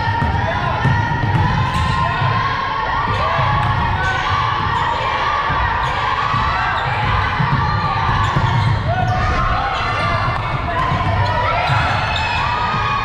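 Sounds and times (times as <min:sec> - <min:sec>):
basketball bouncing on court: 0:00.0 - 0:02.5, 0:03.1 - 0:13.0
players and spectators shouting: 0:00.0 - 0:13.0.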